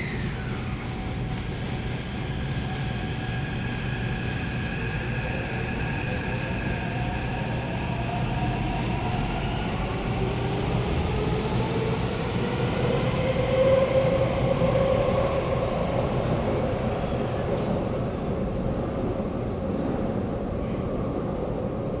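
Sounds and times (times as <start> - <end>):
train running rumble: 0.0 - 20.9.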